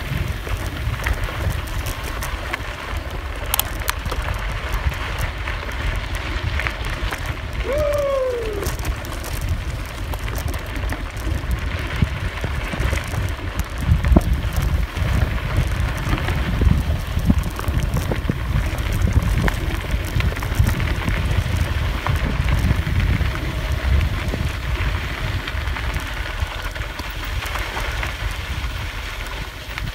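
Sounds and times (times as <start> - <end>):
bicycle clicks and rattles: 0.0 - 29.9
tyres rolling over gravel: 0.0 - 29.9
wind buffeting microphone: 0.0 - 29.9.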